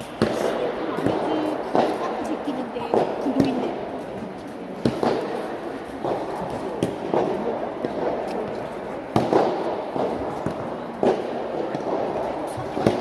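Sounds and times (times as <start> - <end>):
murmur of voices: 0.0 - 13.0
rackets striking ball: 0.0 - 13.0.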